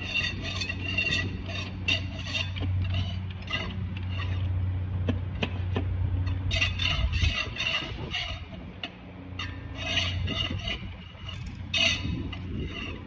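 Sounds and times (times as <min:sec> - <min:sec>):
metal clutch plates scraping: 0:00.0 - 0:04.7, 0:05.3 - 0:13.0
steady low hum: 0:00.0 - 0:13.0.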